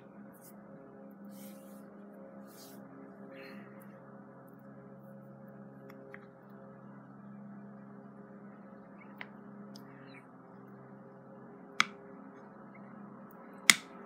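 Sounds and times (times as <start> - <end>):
steady background drone: 0.0 - 14.0.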